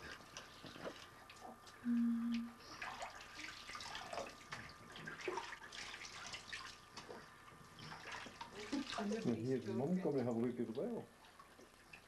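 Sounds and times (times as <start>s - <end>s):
bathwater splashing and trickling: 0.0s - 1.8s, 2.6s - 12.0s.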